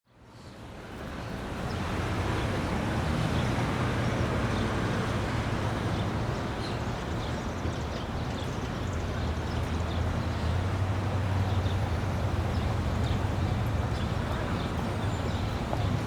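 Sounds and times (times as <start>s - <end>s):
city traffic rumble: 0.2s - 16.0s.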